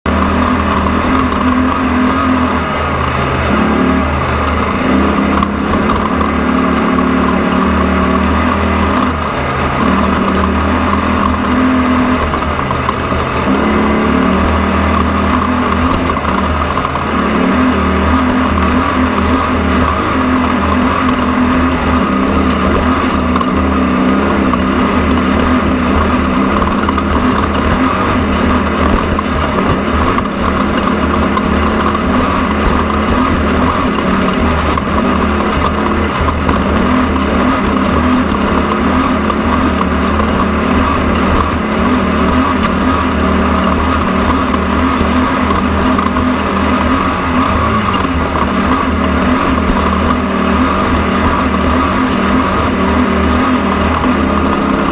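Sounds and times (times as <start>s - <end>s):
engine running loudly: 0.0s - 54.9s.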